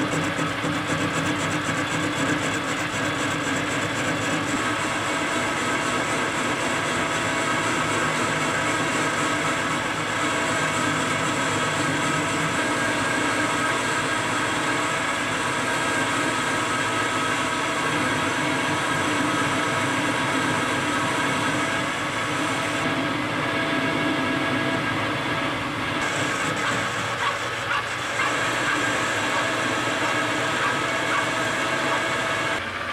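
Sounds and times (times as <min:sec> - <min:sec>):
cutting tool turning metal: 0:00.0 - 0:32.6
metal lathe whining: 0:00.0 - 0:32.9.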